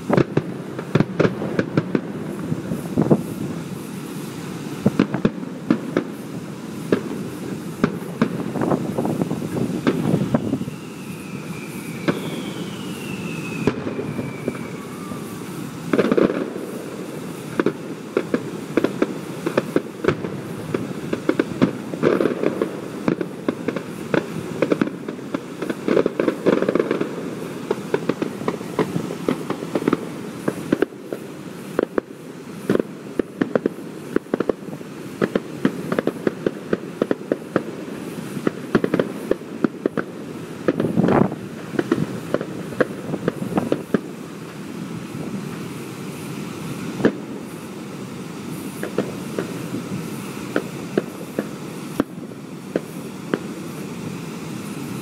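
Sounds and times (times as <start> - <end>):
falling firework whistles: 0.0 - 55.0
fireworks booming and crackling: 0.0 - 55.0.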